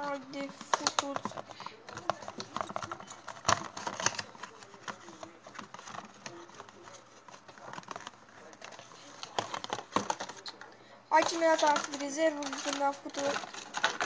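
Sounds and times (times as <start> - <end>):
packaging rustling: 0.0 - 14.0.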